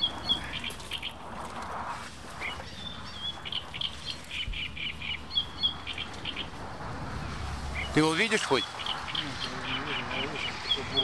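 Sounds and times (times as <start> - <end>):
small birds chirping: 0.0 - 11.0
wind rumbling on microphone: 0.0 - 11.0.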